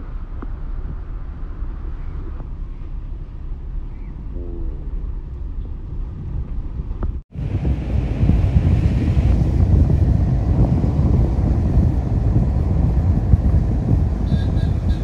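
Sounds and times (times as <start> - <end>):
road and engine rumble in car: 0.0 - 15.0
wind on microphone: 0.0 - 15.0.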